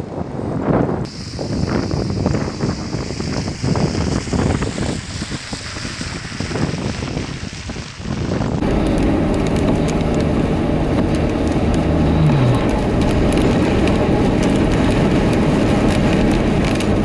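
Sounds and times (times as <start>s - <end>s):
engine hum: 0.0s - 17.0s
road and tyre noise: 0.0s - 17.0s.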